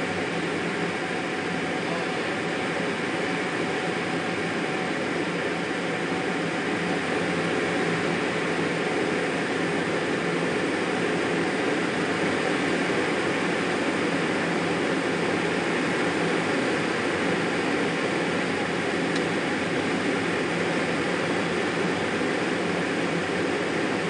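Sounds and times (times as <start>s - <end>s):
jet engine and airflow rush: 0.0s - 24.0s.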